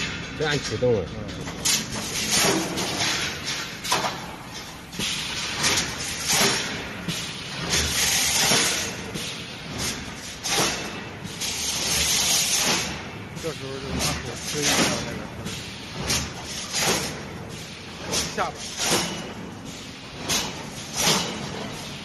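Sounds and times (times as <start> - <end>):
welding machine hissing and knocking: 1.6 - 22.0.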